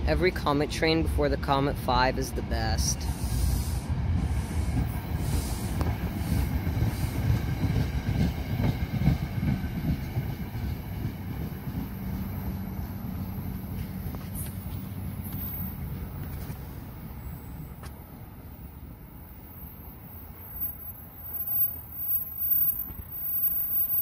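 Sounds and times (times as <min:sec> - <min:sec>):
train rumbling past on rails: 0:00.0 - 0:24.0.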